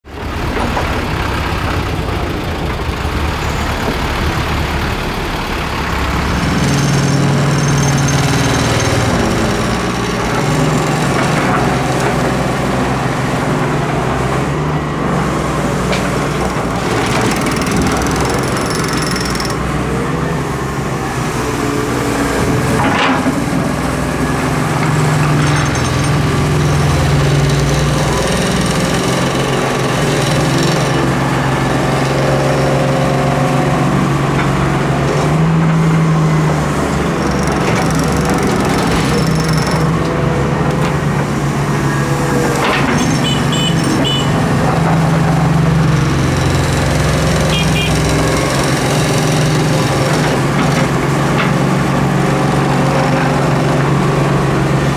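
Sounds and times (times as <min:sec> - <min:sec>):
excavator diesel engine revving: 0:00.1 - 0:54.9.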